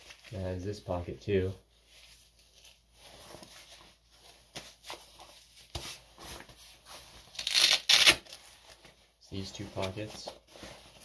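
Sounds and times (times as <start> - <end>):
jacket fabric rustling: 0.0 - 11.0.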